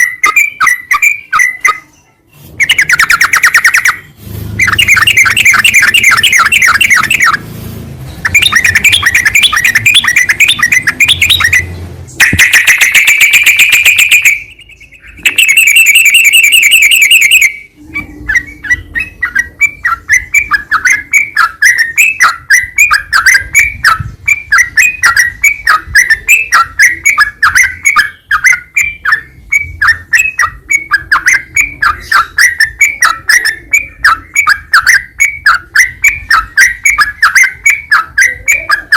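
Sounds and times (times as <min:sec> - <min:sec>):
bird chattering chirps: 0:00.0 - 0:07.5, 0:08.1 - 0:38.9
bird chirps: 0:00.0 - 0:38.9.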